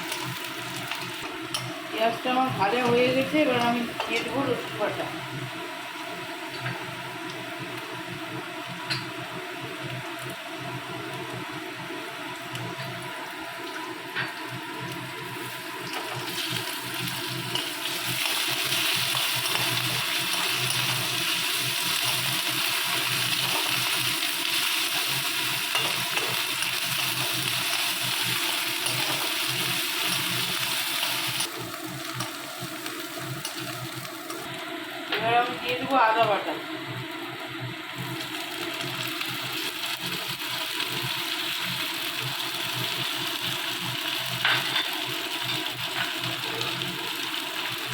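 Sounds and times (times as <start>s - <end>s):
onions sizzling in hot oil: 0.0s - 47.9s.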